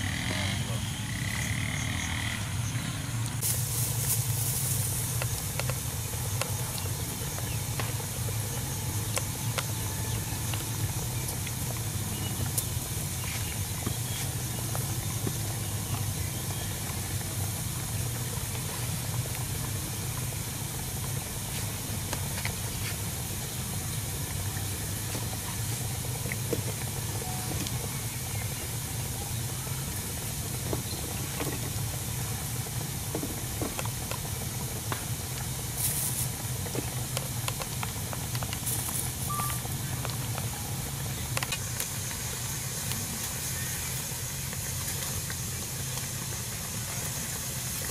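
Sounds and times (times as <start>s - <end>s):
steady hiss: 0.0s - 47.9s.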